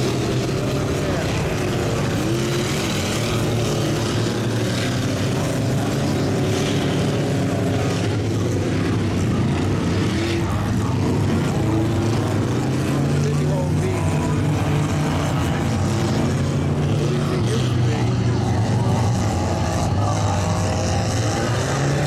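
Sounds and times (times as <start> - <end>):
engine running hard under load: 0.0 - 22.0.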